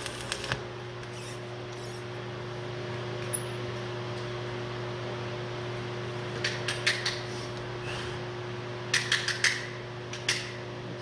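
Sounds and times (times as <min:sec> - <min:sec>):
electrical hum of equipment: 0:00.0 - 0:11.0.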